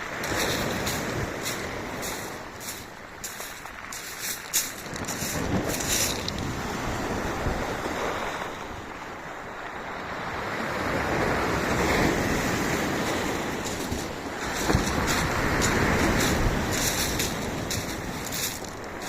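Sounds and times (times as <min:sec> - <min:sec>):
wind buffeting microphone: 0:00.0 - 0:08.2, 0:11.0 - 0:19.0
sea waves washing onto beach: 0:00.0 - 0:19.0.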